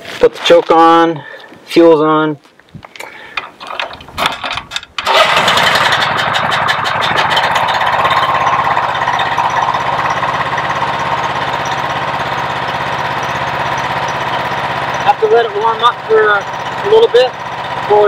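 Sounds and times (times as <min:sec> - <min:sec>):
engine cranking and running: 0:03.0 - 0:18.0.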